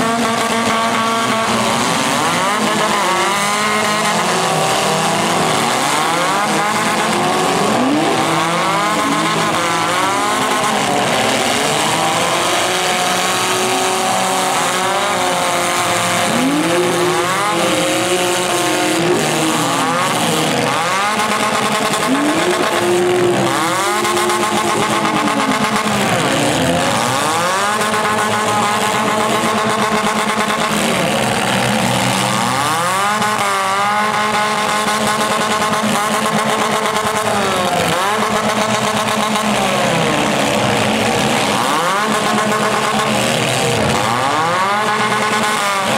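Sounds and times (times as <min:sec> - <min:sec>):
car engines revving hard: 0:00.0 - 0:45.9.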